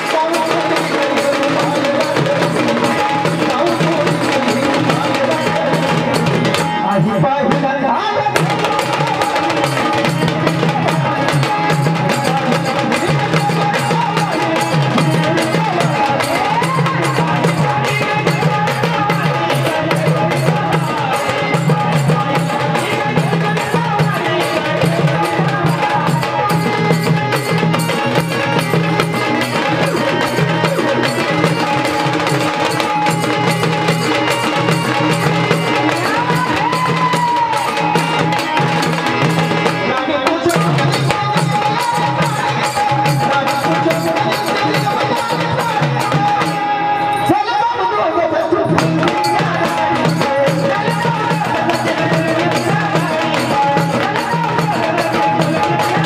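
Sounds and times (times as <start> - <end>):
drums beaten with sticks: 0.0 - 47.3, 48.5 - 56.0.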